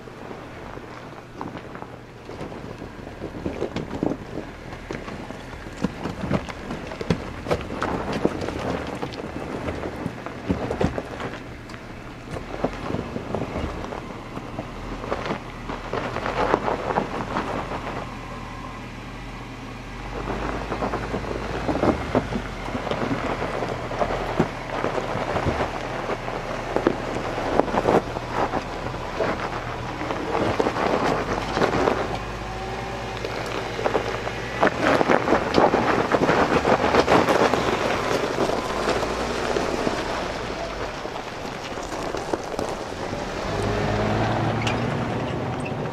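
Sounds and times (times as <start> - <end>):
low engine hum: 0.0 - 45.9
tyres crunching on gravel: 0.0 - 45.9.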